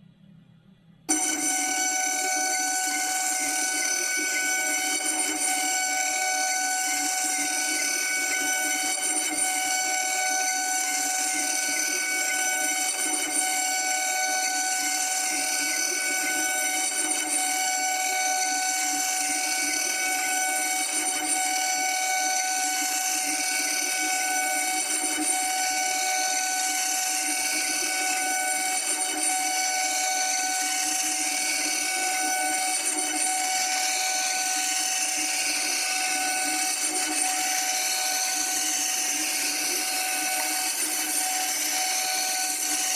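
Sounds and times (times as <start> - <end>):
cnc router spindle whine: 1.1 - 42.9.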